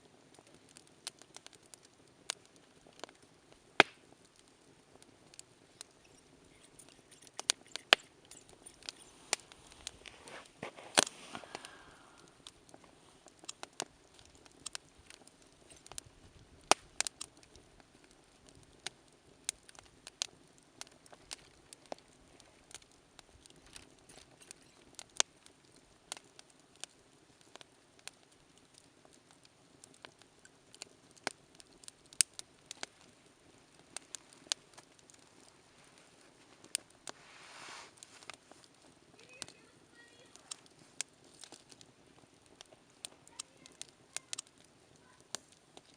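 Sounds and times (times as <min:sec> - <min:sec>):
campfire crackling and popping: 0:00.0 - 0:45.9
rush of burning: 0:00.0 - 0:45.9.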